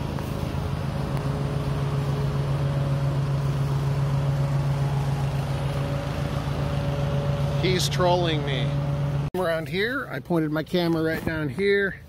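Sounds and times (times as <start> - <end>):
engine running steadily: 0.0 - 10.1.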